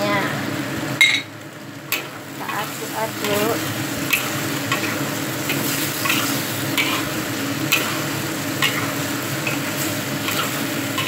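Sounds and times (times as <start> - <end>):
frying sizzle: 0.0 - 11.0
metal spatula scraping wok: 2.0 - 11.0.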